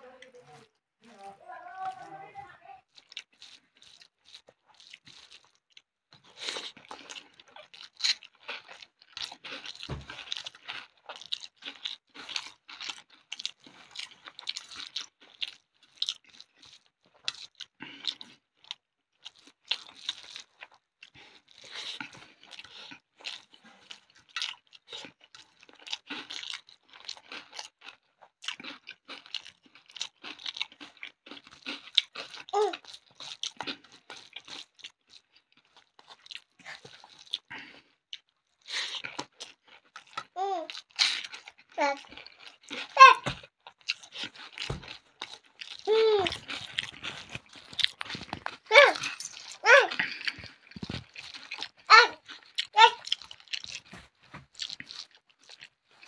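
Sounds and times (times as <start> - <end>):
crunchy chewing: 2.9 - 56.0.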